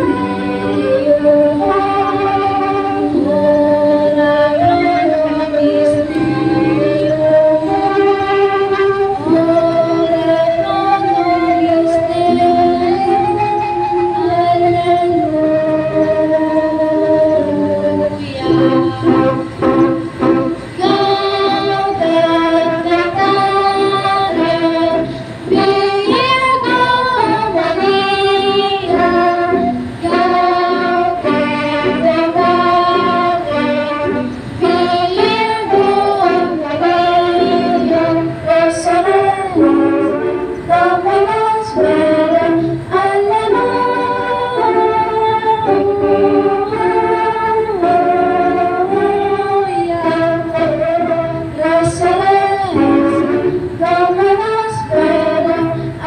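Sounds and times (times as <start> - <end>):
woman singing a hymn: 0.0 - 56.0.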